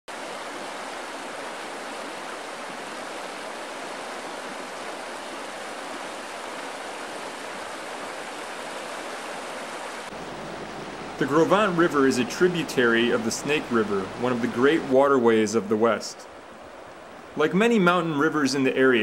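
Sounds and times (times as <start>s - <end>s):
river water rushing: 0.1s - 18.7s.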